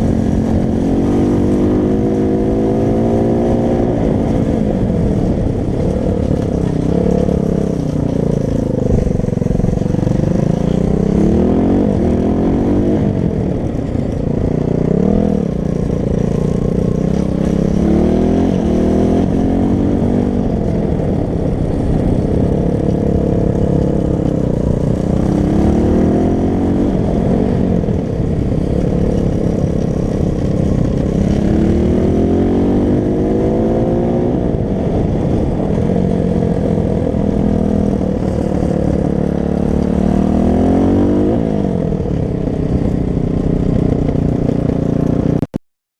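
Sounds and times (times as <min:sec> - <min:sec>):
motorbike engine revving: 0:00.0 - 0:45.5.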